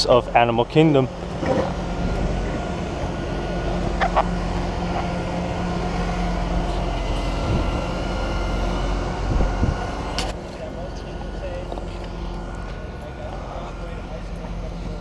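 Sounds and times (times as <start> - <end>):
large vehicle engine rumbling: 0.0 - 15.0.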